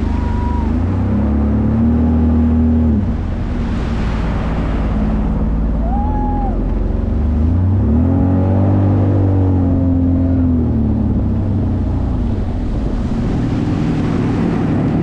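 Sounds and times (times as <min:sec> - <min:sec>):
jet ski engine: 0:00.0 - 0:15.0
water rushing: 0:00.0 - 0:15.0.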